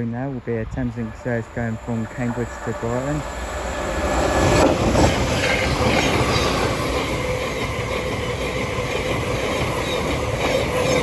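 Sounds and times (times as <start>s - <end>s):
train hum: 0.0s - 11.0s
train wheels rushing on rail: 0.0s - 11.0s.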